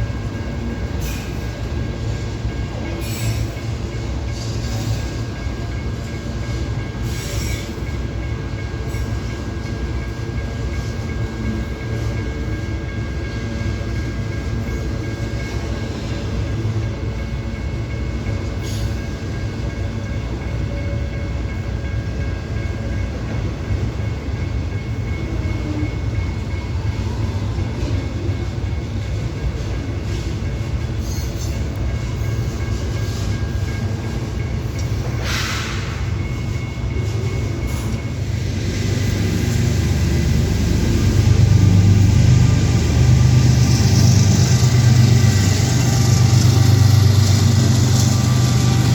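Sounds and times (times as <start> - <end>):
freight train cars rumbling: 0.0 - 48.9.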